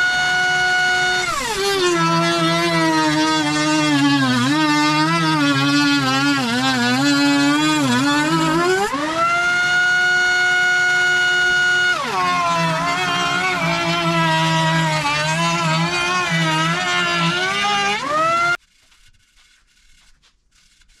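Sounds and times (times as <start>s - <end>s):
router motor whining: 0.0s - 20.0s.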